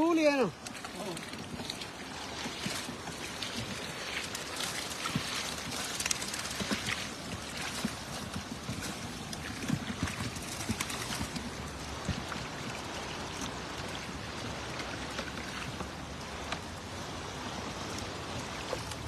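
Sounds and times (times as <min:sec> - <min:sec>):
water dripping and trickling: 0:00.0 - 0:19.0
fish flapping and slapping: 0:00.5 - 0:16.8, 0:18.6 - 0:19.0.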